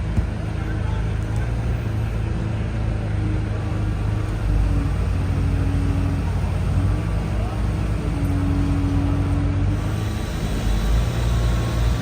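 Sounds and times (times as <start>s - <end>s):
large engine rumbling: 0.0s - 12.0s.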